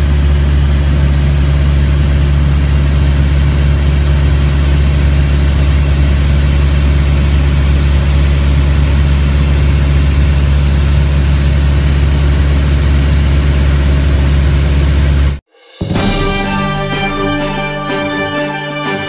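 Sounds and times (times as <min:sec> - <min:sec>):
light airplane engine drone: 0:00.0 - 0:15.3.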